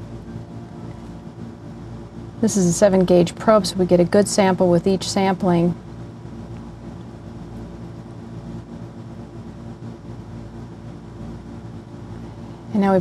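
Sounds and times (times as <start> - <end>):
mechanical hum of biopsy device: 0.0 - 13.0.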